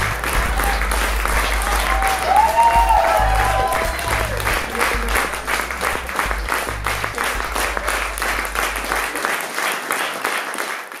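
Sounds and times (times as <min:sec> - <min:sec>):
low music: 0:00.0 - 0:09.2
audience applause: 0:00.0 - 0:11.0.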